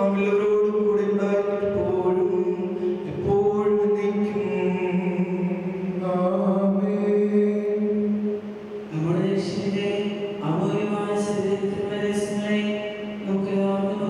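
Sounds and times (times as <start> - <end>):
slow hymn singing: 0.0 - 14.0.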